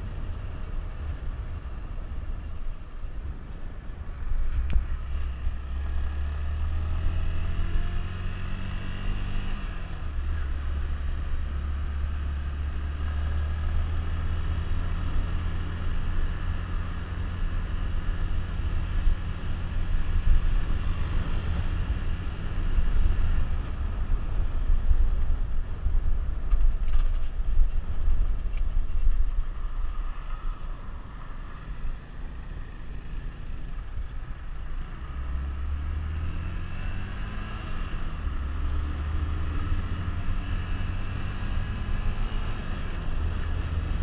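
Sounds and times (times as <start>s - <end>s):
wind and road noise: 0.0s - 44.0s.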